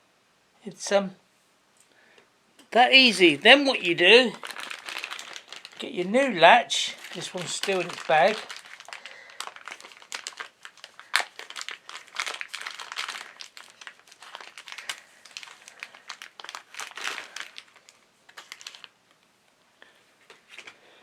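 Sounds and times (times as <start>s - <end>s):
plastic bag crinkling: 2.8s - 19.2s, 20.3s - 20.8s.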